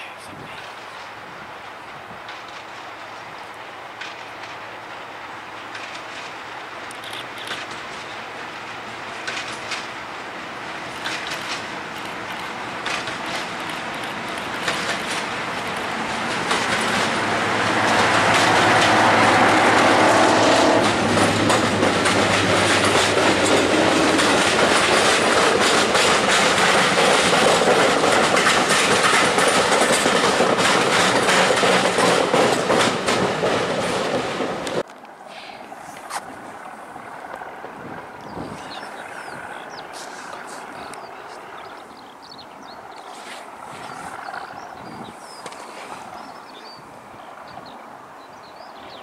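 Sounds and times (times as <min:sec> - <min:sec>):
train wheels rolling and clicking: 0:00.6 - 0:35.2, 0:35.9 - 0:46.7
diesel locomotive engine: 0:00.6 - 0:48.6.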